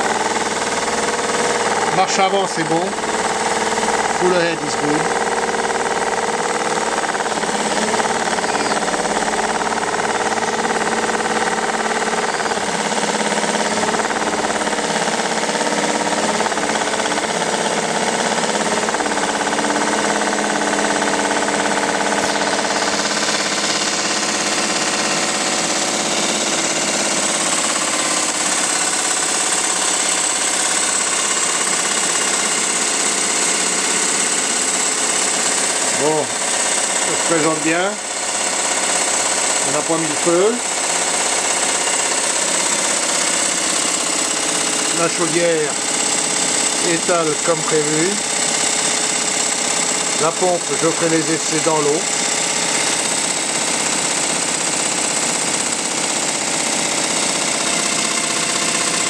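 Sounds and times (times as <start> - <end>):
steam engine mechanical chatter: 0.0 - 59.0.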